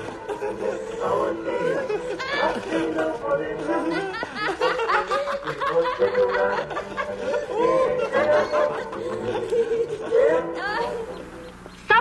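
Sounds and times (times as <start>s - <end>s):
people laughing: 0.0s - 11.5s.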